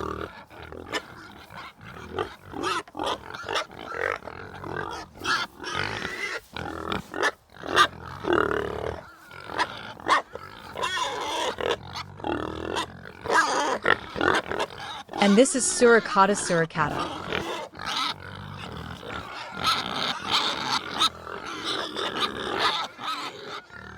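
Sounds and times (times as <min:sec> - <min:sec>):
leopard growling and grunting: 0:00.0 - 0:16.2, 0:16.8 - 0:23.9.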